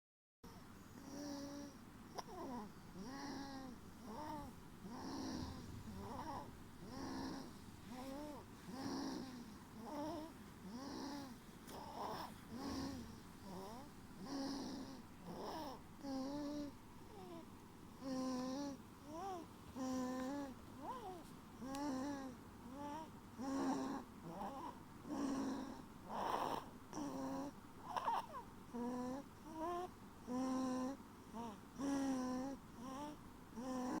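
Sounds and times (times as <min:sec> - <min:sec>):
baby snoring: 0:00.5 - 0:34.0.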